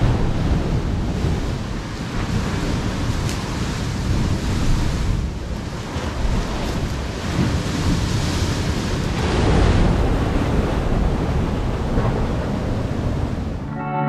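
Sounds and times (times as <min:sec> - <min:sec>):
surf breaking on rocks: 0:00.0 - 0:13.6
wind buffeting microphone: 0:00.0 - 0:13.6.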